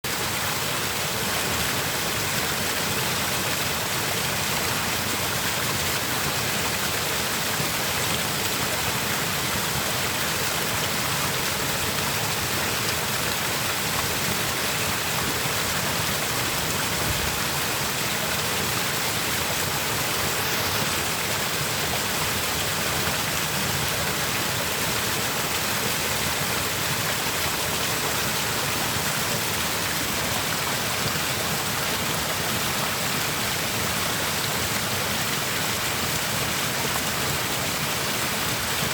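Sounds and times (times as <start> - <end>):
stream water rushing and babbling: 0.0 - 38.9.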